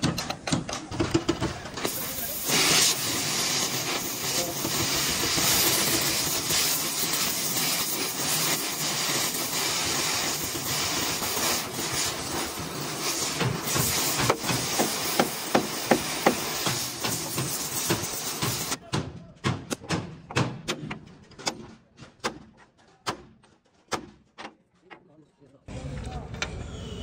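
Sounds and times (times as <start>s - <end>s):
hissing workshop noise: 0.0s - 25.0s.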